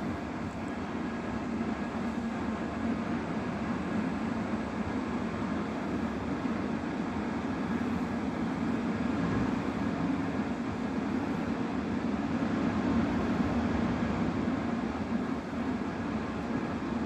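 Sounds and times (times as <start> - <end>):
train rushing at speed: 0.0 - 17.0.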